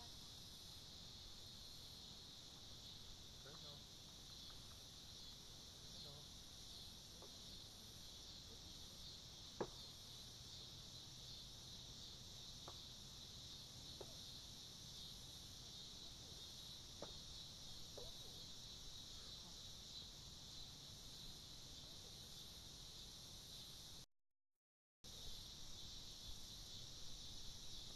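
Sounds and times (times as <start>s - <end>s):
insect chorus buzzing: 0.0s - 24.0s, 25.1s - 27.9s.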